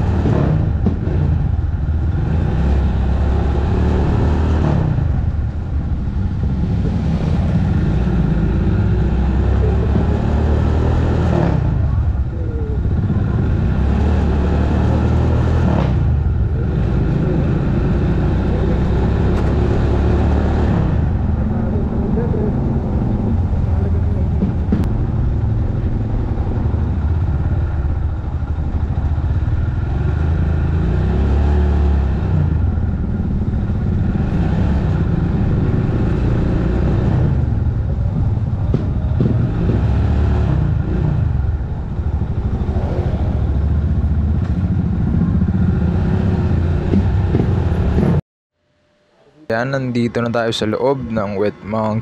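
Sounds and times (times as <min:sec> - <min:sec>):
motorcycle engine running: 0:00.0 - 0:48.2
wind and road noise: 0:00.0 - 0:48.2, 0:49.5 - 0:52.0.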